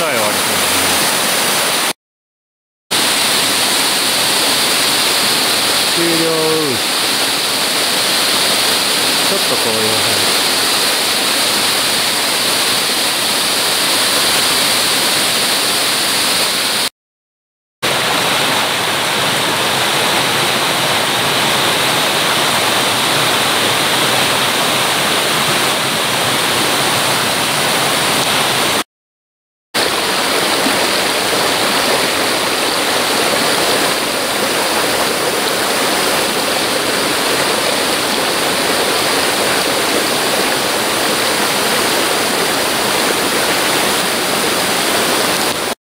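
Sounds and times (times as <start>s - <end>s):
stream rushing over rocks: 0.0s - 2.0s, 2.9s - 16.9s, 17.9s - 28.8s, 29.8s - 45.8s.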